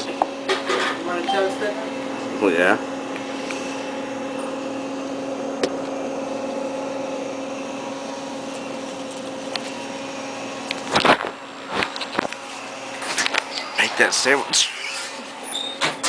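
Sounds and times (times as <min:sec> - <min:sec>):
toaster oven humming: 0:00.0 - 0:16.0.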